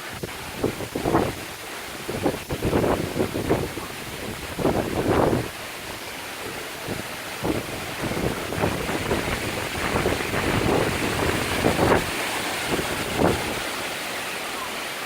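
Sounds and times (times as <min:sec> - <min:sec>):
hurricane wind gusting: 0:00.0 - 0:15.0.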